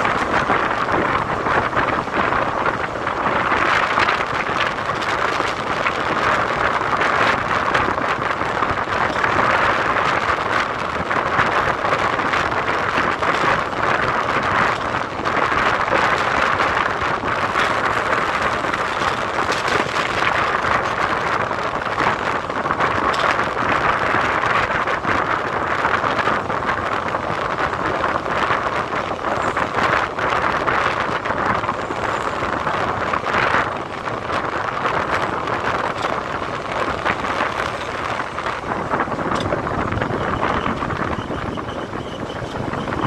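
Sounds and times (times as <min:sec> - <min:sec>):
train rushing: 0:00.0 - 0:43.0
wind on microphone: 0:00.0 - 0:43.0.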